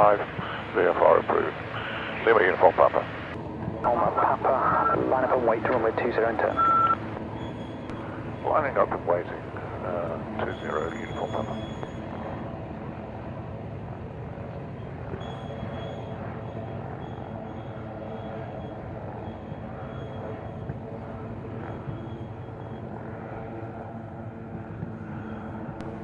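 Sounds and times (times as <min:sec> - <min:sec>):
aircraft engine running: 0:00.0 - 0:26.0
faint high whine: 0:00.0 - 0:26.0.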